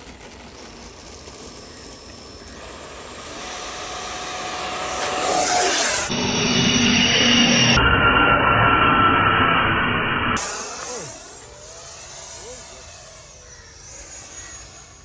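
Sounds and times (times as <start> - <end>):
electric ducted fan whining: 0.0 - 7.7, 10.4 - 15.0.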